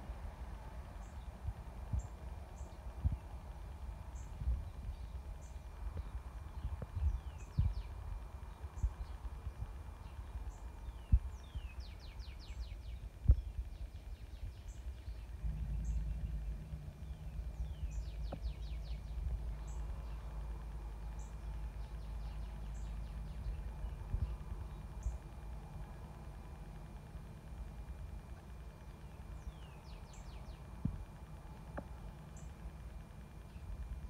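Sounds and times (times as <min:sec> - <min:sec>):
low rumble: 0:00.0 - 0:34.0
birds calling: 0:00.9 - 0:34.0.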